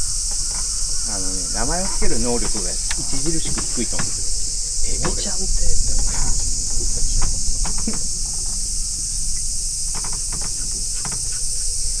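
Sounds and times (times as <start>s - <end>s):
cicadas buzzing: 0.0s - 12.0s
low rumble: 0.0s - 12.0s.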